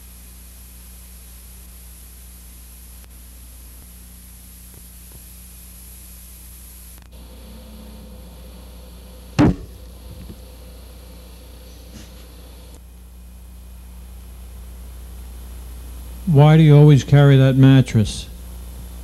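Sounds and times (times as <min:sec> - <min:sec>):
steady hiss and low hum: 0:00.0 - 0:19.0.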